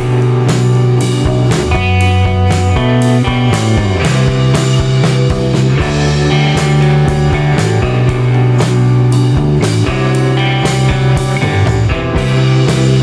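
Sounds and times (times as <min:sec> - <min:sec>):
bass: 0:00.0 - 0:13.0
drum beat: 0:00.0 - 0:13.0
guitar: 0:00.0 - 0:13.0.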